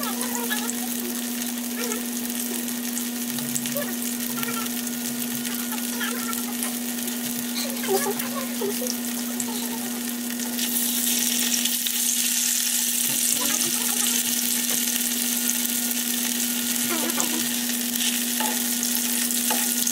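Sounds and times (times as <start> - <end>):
sausages sizzling in oil: 0.0 - 19.9.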